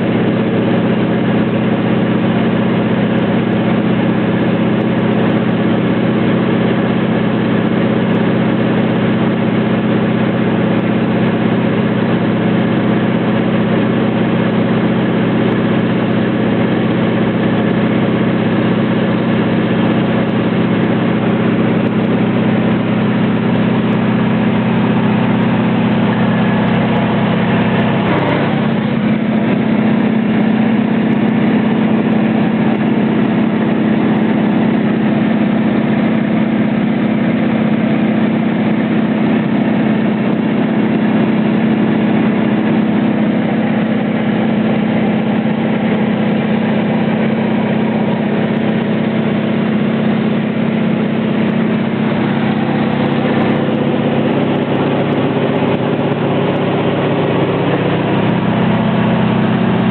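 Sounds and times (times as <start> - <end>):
aircraft engine drone in cabin: 0.0 - 59.9.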